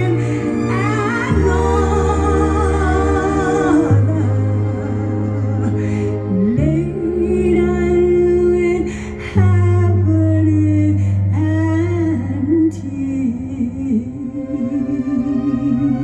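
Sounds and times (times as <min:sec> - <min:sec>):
low accompaniment chords: 0:00.0 - 0:16.0
woman singing gospel: 0:00.0 - 0:16.0.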